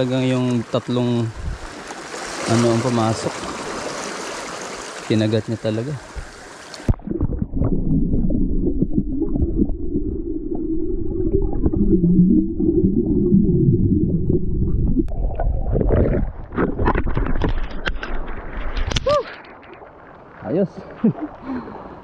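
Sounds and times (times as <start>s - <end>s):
underwater rumble of surf: 1.0s - 18.8s.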